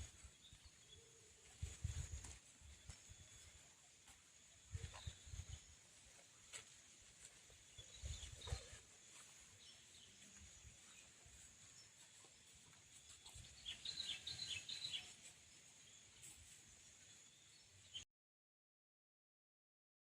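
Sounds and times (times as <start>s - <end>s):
bird chirping: 0.0s - 5.8s, 7.6s - 18.0s.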